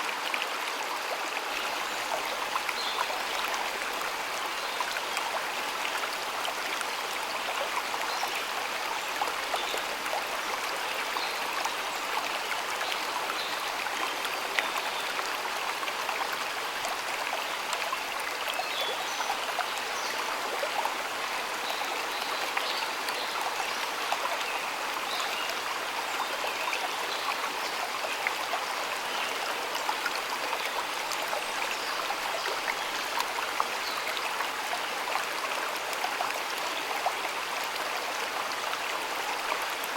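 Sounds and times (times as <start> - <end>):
stream flowing and splashing: 0.0 - 39.9.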